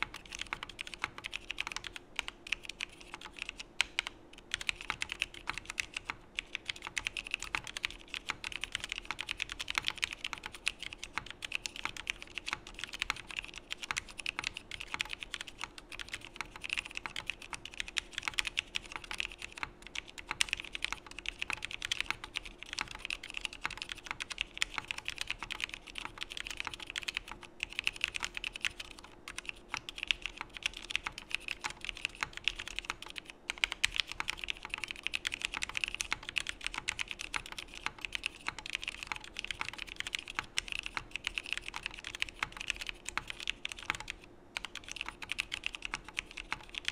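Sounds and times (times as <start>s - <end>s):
fast typing on mechanical keyboard: 0.0s - 46.9s.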